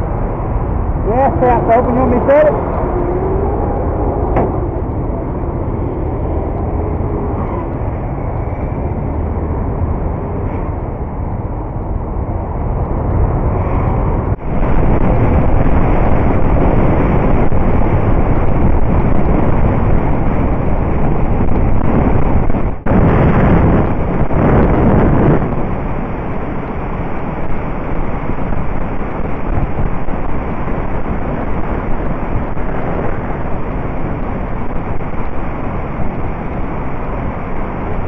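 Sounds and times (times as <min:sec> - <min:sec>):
traffic noise: 0:00.0 - 0:38.0
wind rushing on microphone: 0:00.0 - 0:38.0.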